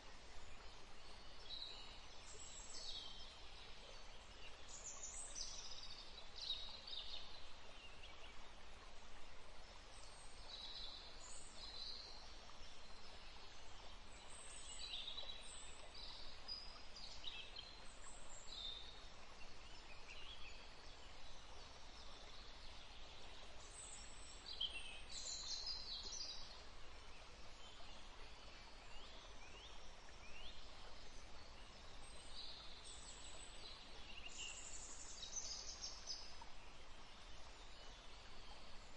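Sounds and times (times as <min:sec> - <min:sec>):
faint outdoor hiss: 0:00.0 - 0:38.9.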